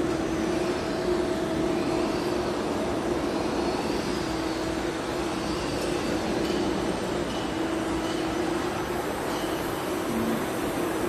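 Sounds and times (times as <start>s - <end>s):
lathe mechanical hum: 0.0s - 11.0s.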